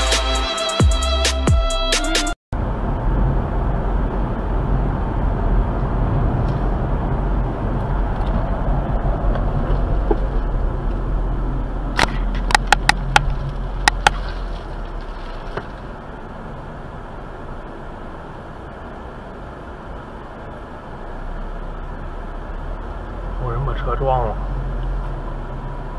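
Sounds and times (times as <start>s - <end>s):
car engine and tyre rumble: 2.5s - 25.9s.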